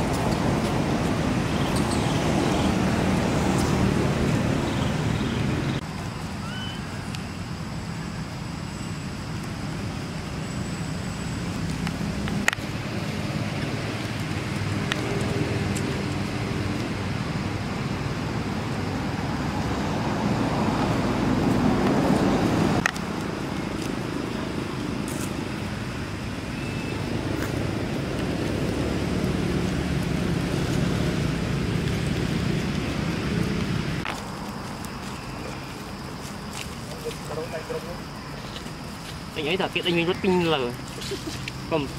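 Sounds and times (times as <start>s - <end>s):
distant road traffic rumble: 0.0s - 41.9s.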